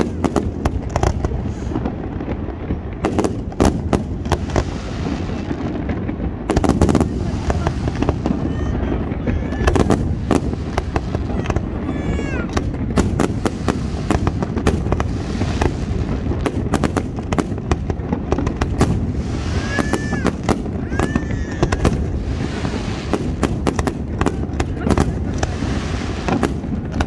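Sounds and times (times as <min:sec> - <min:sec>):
fireworks bangs and crackles: 0:00.0 - 0:27.0
fireworks whistling: 0:00.0 - 0:27.0.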